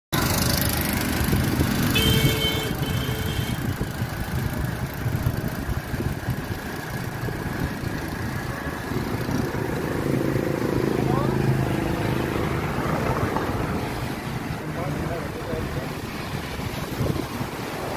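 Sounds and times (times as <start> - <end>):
vehicle engines rumbling: 0.2 - 17.9.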